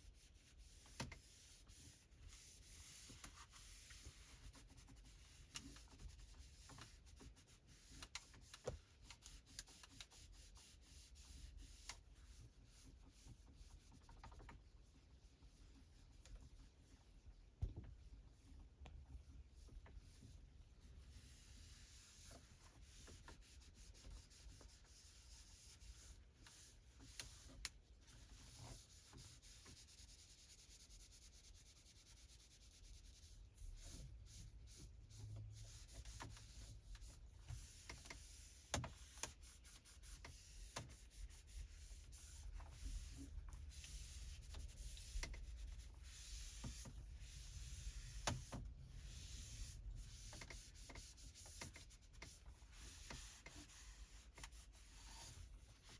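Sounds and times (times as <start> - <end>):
cloth wiping surfaces: 0.0 - 55.9.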